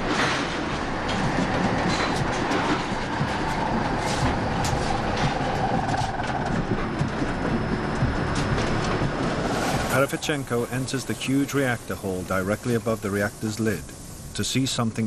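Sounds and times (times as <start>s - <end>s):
steady heavy rumbling: 0.0s - 15.0s.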